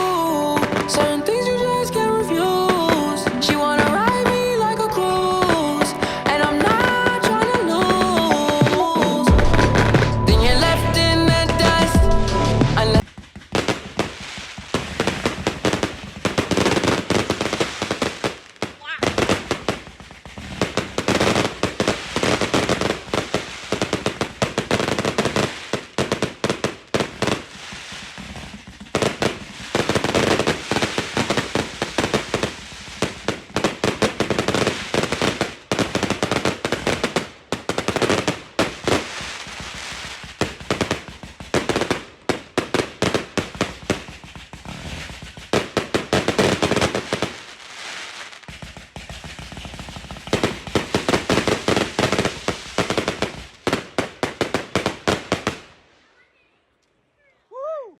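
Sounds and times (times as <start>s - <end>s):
fireworks cracks and bangs: 0.0s - 55.8s.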